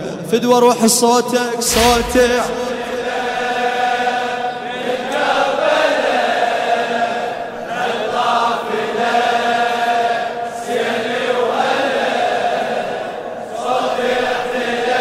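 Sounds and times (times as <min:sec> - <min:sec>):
men chanting together: 0:01.5 - 0:15.0.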